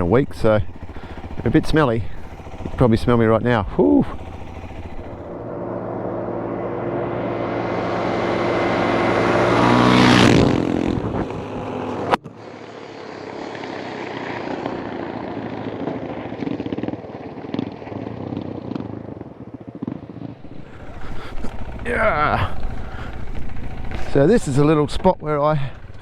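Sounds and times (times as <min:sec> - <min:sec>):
vehicle engine running: 0:00.0 - 0:16.6, 0:20.3 - 0:26.0.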